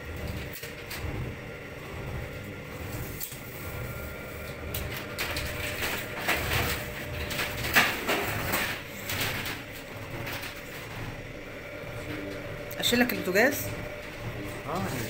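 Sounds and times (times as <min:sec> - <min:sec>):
aluminium profile scraping and rattling: 0:00.0 - 0:15.0.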